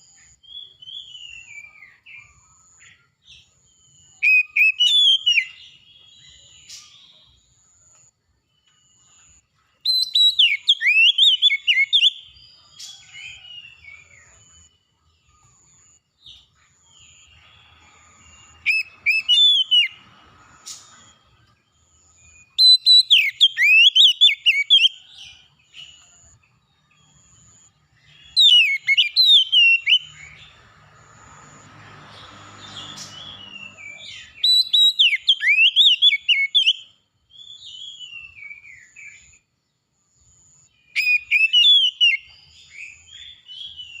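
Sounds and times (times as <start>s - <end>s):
songbird whistling song: 0.0s - 39.6s, 40.3s - 44.0s.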